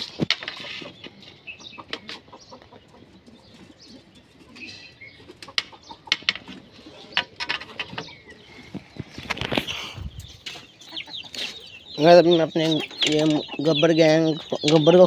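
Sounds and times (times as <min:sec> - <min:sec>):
pigeons and birds calling: 0:00.0 - 0:15.0.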